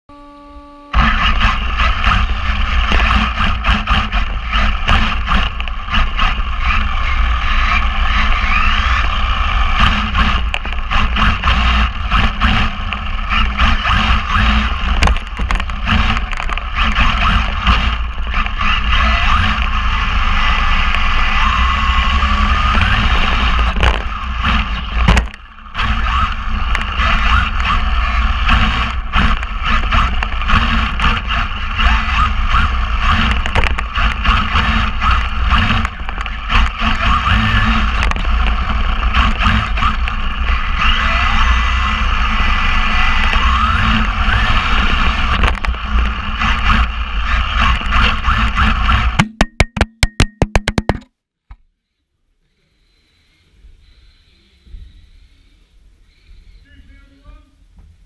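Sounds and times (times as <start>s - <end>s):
electric toy car motor whine: 0.1s - 49.2s
toy car crashing and tumbling: 1.0s - 49.2s.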